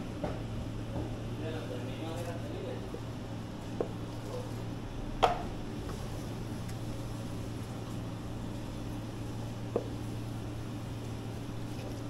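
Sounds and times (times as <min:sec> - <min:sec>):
kitchen equipment hum: 0:00.0 - 0:12.0.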